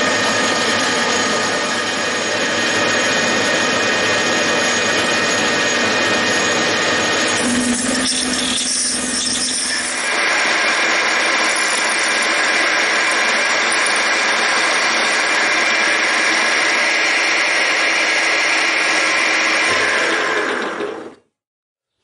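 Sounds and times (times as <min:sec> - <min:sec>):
metal lathe drilling: 0:00.0 - 0:21.2
milling machine spindle whine: 0:00.0 - 0:21.2.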